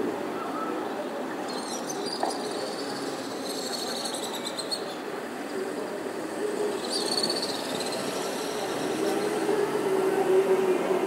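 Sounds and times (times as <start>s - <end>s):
city traffic hum: 0.0s - 11.0s.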